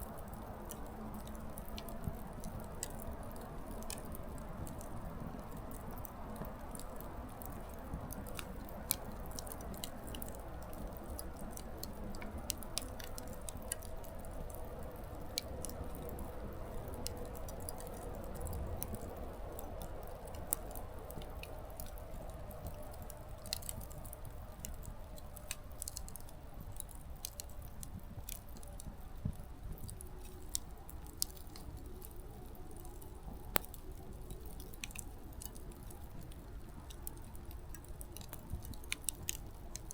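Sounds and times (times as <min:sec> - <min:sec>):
firewood crackling and popping: 0:00.0 - 0:39.9
low rush of flame: 0:00.0 - 0:39.9.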